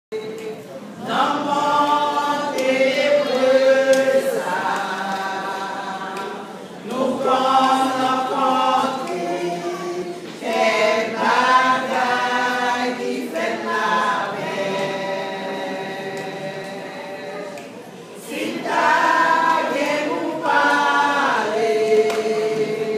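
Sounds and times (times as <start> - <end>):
women's choir singing a cappella: 0.2 - 22.9.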